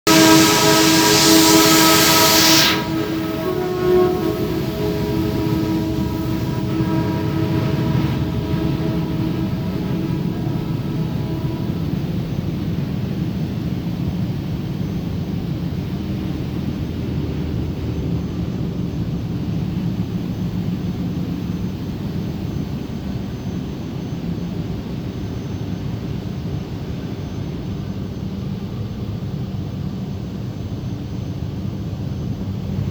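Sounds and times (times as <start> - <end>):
low roar of plant machinery: 0.1 - 32.9.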